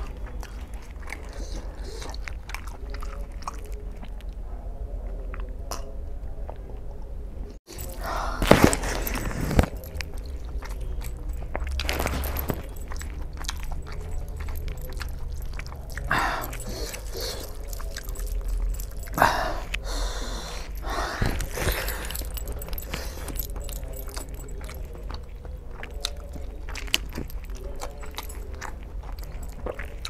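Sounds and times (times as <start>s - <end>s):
wet chewing and lip-smacking: 0.0s - 4.4s, 7.7s - 30.0s.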